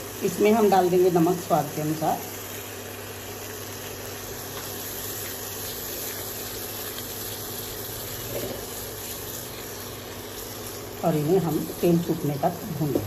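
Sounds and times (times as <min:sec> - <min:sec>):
faint crackles while stirring: 0:00.0 - 0:13.0
paste sizzling in oil: 0:00.0 - 0:13.0.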